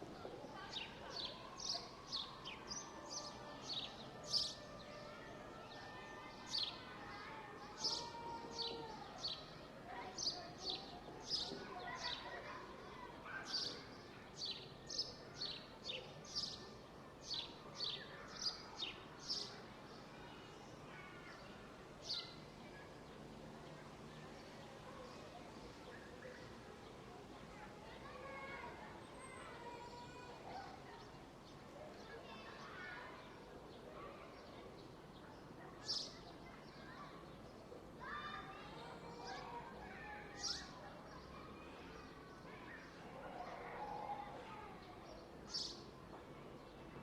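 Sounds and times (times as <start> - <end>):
park background noise: 0.0 - 47.0.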